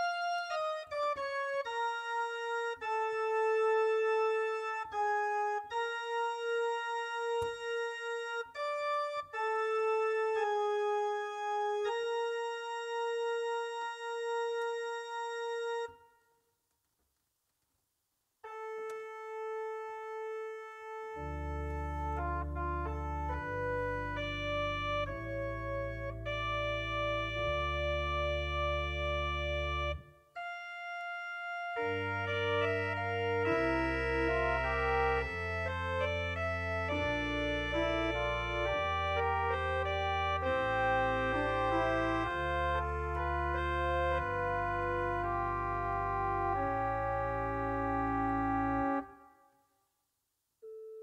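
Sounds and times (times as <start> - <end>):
organ chords and pedal bass: 0.0 - 16.0, 18.5 - 30.6, 31.7 - 49.2
church organ melody: 0.0 - 16.2, 18.4 - 49.5.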